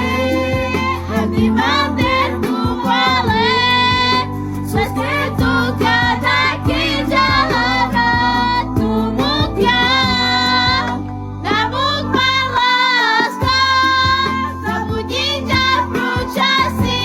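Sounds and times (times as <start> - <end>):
backing music with bass and beat: 0.0 - 17.0.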